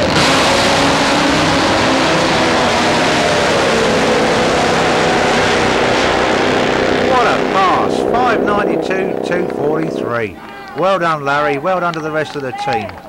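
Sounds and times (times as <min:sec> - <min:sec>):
drag motorcycle engines blaring: 0:00.0 - 0:12.6.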